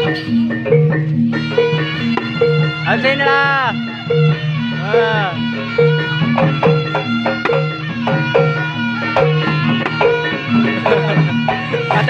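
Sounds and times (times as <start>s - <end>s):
drum strikes: 0.0s - 12.0s
sustained melody notes: 0.0s - 12.0s.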